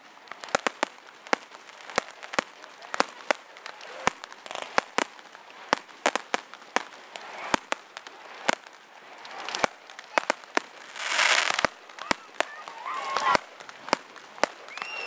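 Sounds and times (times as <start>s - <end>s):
fireworks banging: 0.0s - 15.0s
fireworks crackling hiss: 0.0s - 15.0s.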